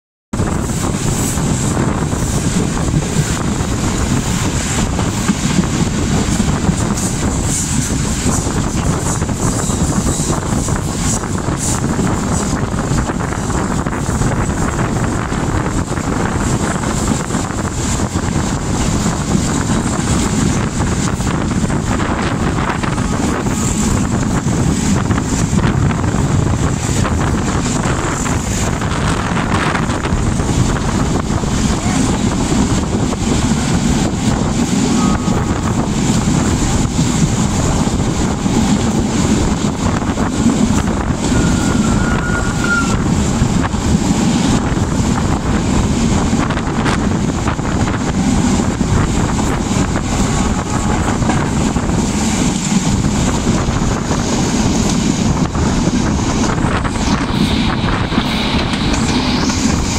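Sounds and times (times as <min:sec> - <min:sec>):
moving train running noise: 0:00.3 - 0:59.9
wind rushing over microphone: 0:00.3 - 0:59.9.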